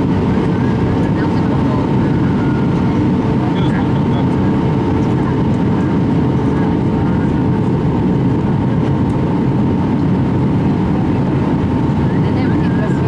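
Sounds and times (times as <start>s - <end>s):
jet engine and airflow rush: 0.0s - 13.0s.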